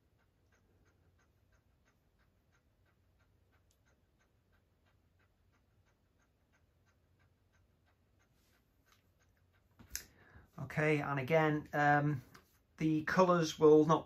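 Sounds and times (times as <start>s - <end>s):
faint even ticking: 0.0s - 14.0s.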